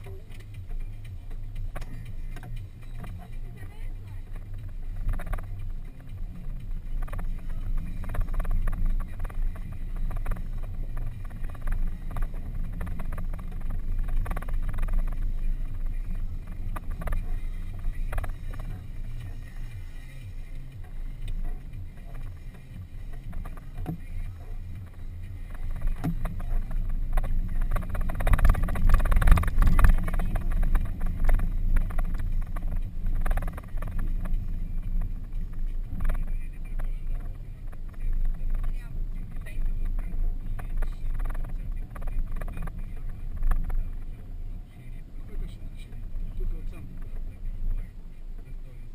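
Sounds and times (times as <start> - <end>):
vehicle engine rumble: 0.0 - 48.9.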